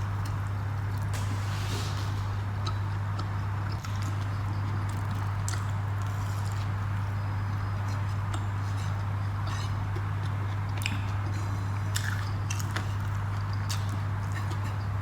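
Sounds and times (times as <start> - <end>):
steady low hum: 0.0 - 15.0
wet chewing: 2.3 - 15.0.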